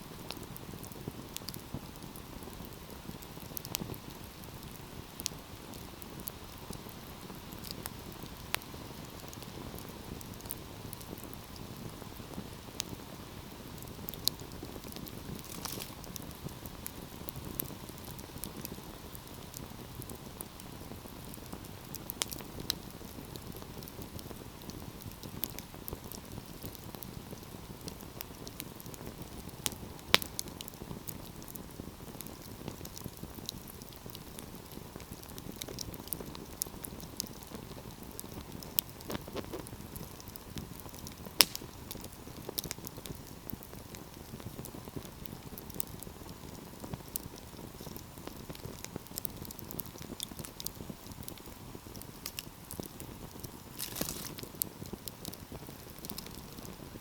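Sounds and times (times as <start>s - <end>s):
fire snaps and pops: 0.0s - 57.0s
wood fire crackling: 0.0s - 57.0s.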